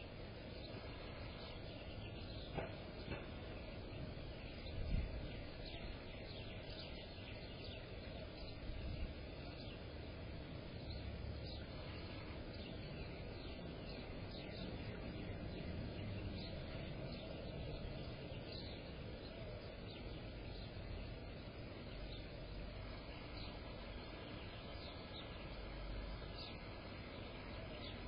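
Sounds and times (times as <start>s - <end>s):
low background noise: 0.0s - 28.0s
small songbirds chirping: 0.0s - 28.0s.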